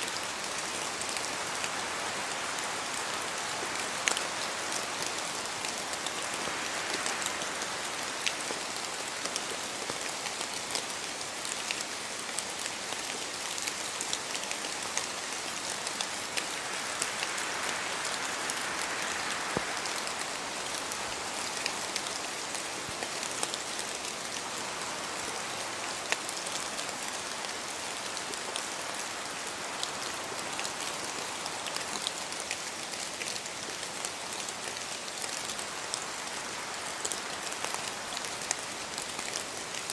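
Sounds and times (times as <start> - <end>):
rain pattering on leaves: 0.0 - 39.9
water dripping from trees: 0.1 - 39.9.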